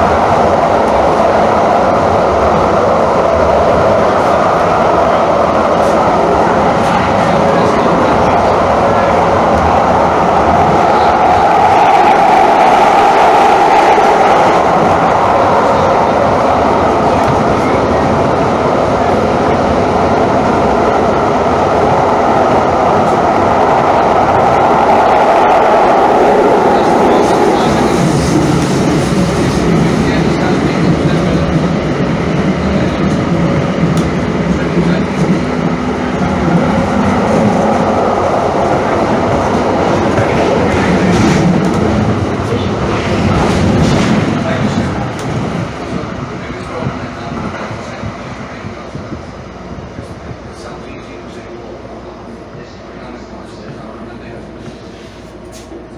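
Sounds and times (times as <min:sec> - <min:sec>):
light-rail train running: 0:00.0 - 0:55.9.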